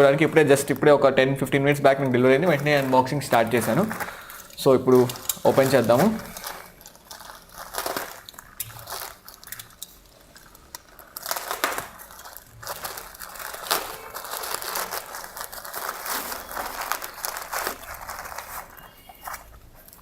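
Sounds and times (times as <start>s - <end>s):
package wrapping crinkling and tearing: 1.8s - 20.0s.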